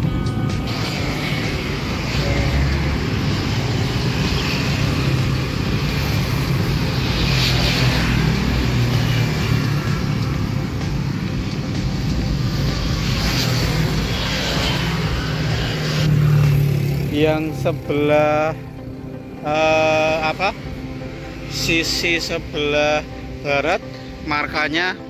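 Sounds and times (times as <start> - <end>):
motorcycle traffic passing: 0.0 - 25.0.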